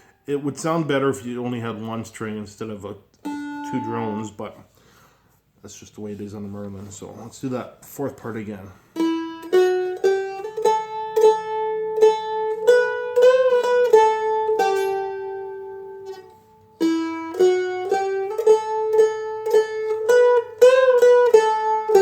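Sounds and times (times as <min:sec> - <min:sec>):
picked string melody: 0:00.0 - 0:05.0, 0:06.1 - 0:22.0.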